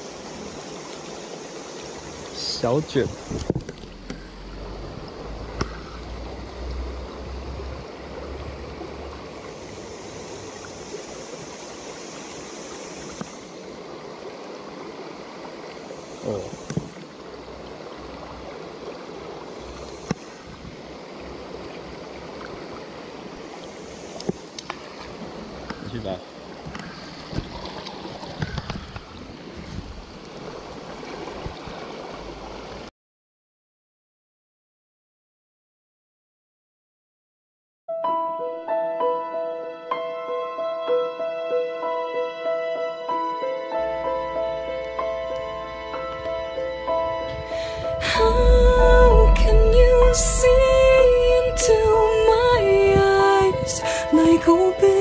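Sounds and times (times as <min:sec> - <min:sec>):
stream water flowing: 0:00.0 - 0:32.9, 0:41.8 - 0:55.0.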